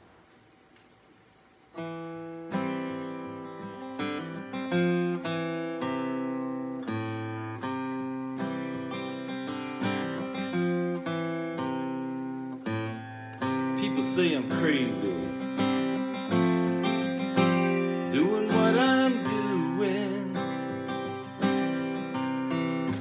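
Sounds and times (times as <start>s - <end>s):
acoustic guitar strumming: 1.7s - 23.0s.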